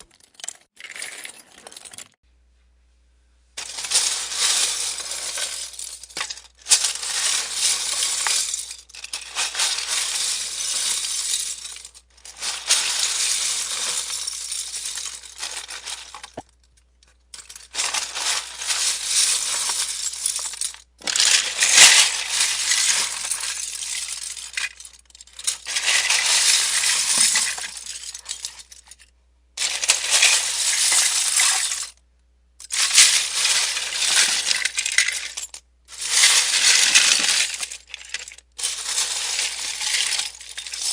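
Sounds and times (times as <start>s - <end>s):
plastic bricks clattering: 0.0s - 2.2s, 3.6s - 32.0s, 32.6s - 40.9s.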